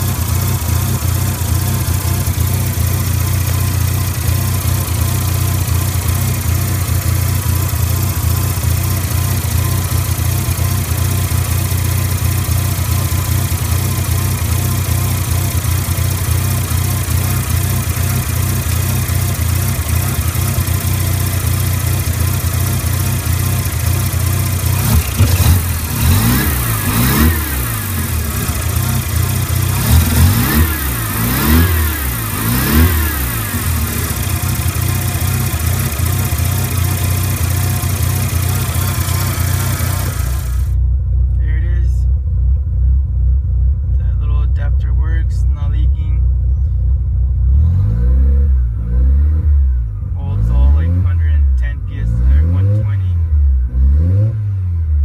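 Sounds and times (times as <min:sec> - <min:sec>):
rotary engine idling and revving: 0:00.0 - 0:41.4, 0:42.2 - 0:55.0.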